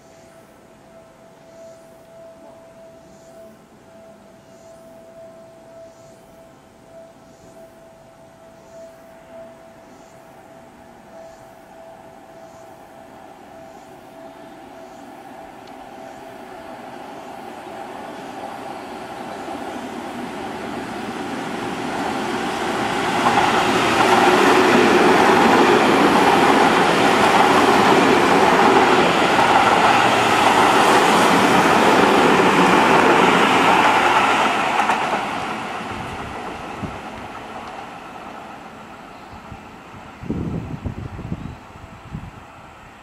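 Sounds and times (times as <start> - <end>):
electric train passing: 0.0 - 43.0.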